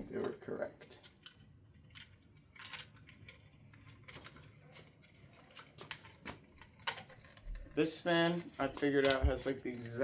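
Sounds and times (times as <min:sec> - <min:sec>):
small parts clicking and tapping: 0:00.2 - 0:10.0.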